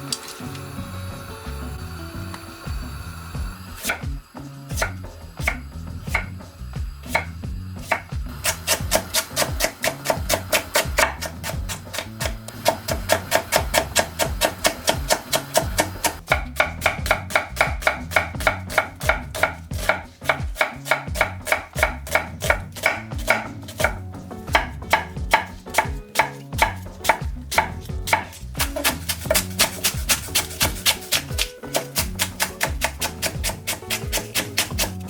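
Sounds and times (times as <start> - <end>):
background music: 0.0 - 35.0
knife chopping on cutting board: 3.8 - 6.4, 7.1 - 35.0.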